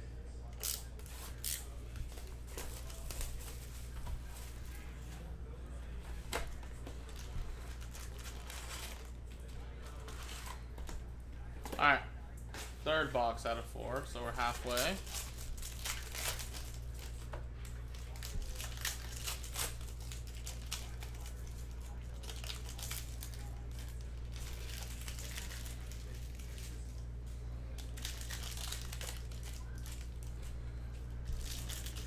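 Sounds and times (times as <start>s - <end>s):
foil wrappers crinkling and tearing: 0.5s - 4.9s, 6.6s - 10.8s, 12.5s - 32.0s.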